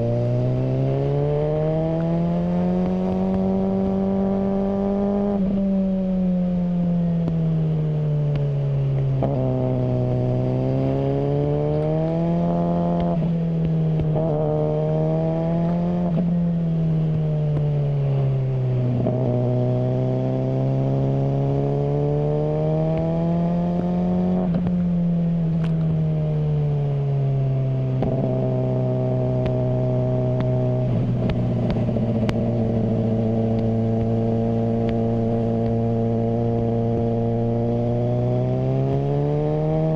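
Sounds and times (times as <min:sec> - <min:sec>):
motorcycle engine revving: 0:00.0 - 0:07.8, 0:09.0 - 0:26.6, 0:27.4 - 0:39.9.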